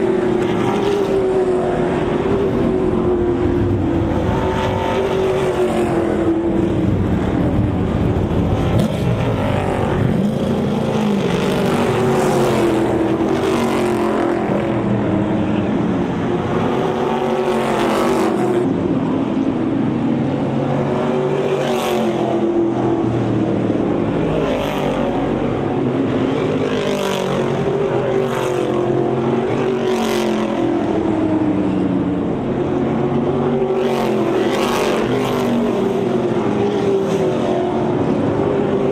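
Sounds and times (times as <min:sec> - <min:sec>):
race cars passing: 0:00.0 - 0:38.9.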